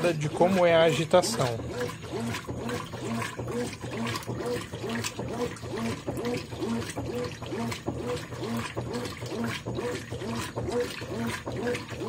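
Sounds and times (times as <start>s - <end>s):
washing machine motor agitating: 0.0s - 12.0s
water sloshing: 0.0s - 12.0s.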